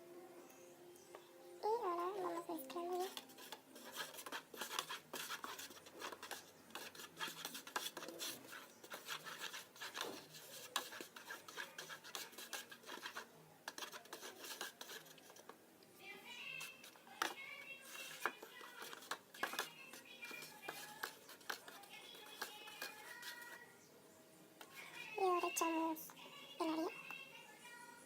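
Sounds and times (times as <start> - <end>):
spoon stirring glue: 1.0 - 23.9, 24.6 - 27.4
spoon scraping a container: 1.7 - 15.5, 16.4 - 23.9, 24.6 - 27.0.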